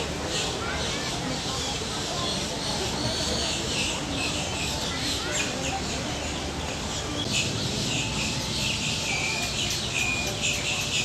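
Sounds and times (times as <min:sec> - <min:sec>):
low background noise: 0:00.0 - 0:11.0
small birds chirping: 0:00.2 - 0:11.0.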